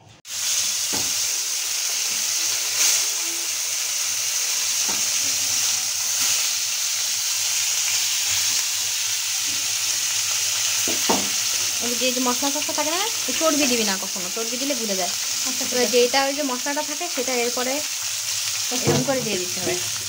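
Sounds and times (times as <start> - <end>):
fish frying in hot oil: 0.3 - 20.0.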